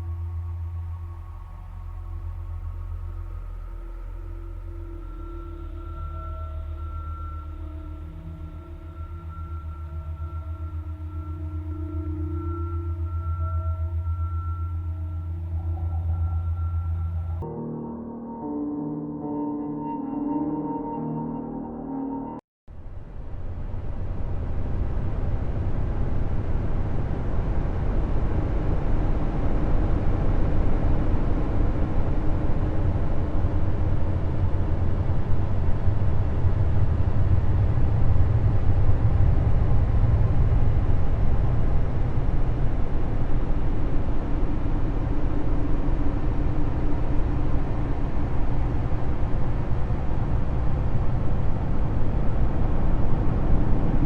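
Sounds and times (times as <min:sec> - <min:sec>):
faint hum: 0:00.0 - 0:54.0
low rumbling noise: 0:00.0 - 0:54.0.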